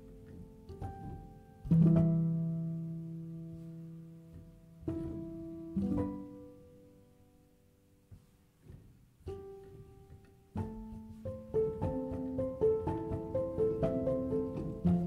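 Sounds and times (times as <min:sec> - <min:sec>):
slow plucked string music: 0:00.0 - 0:07.2, 0:08.1 - 0:15.0.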